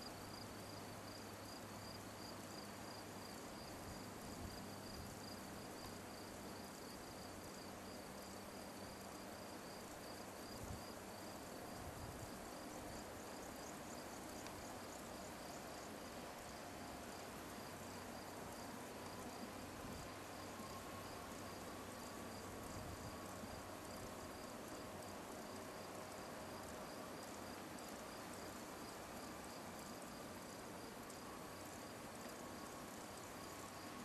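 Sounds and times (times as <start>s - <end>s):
insects chirping: 0.0s - 34.0s
low outdoor hiss: 0.0s - 34.0s.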